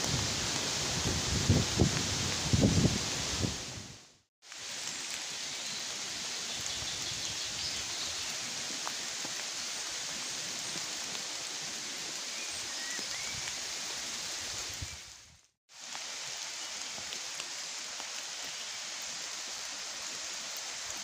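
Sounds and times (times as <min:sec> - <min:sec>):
rain falling on leaves: 0:00.0 - 0:21.0.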